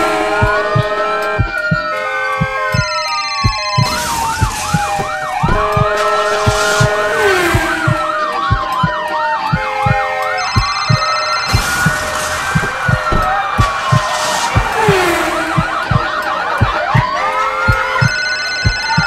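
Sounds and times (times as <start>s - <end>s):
steady low thumping: 0.0s - 18.1s
ambulance siren wailing and yelping: 0.0s - 19.0s.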